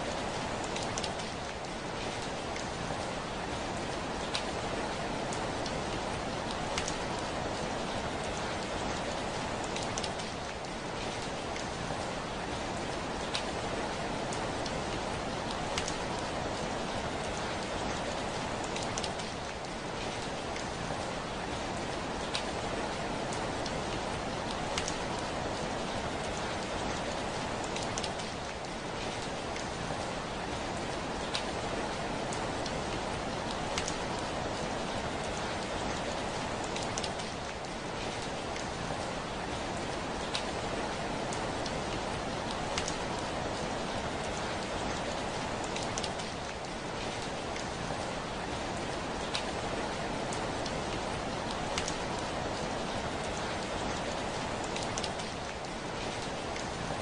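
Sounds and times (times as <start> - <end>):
heavy rain on a window: 0.0 - 57.0
sharp raindrop ticks: 0.0 - 57.0.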